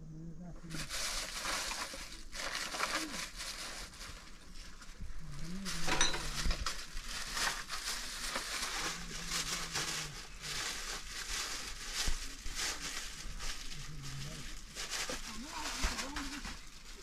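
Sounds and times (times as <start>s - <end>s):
brittle crunching and crackling: 0.9s - 17.0s.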